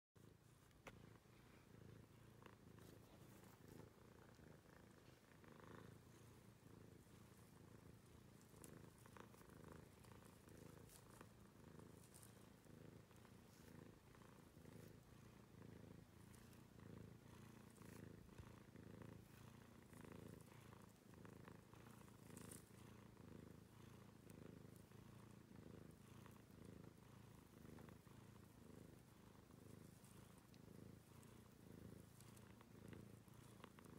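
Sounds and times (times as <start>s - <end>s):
cat purring softly: 0.2s - 33.9s.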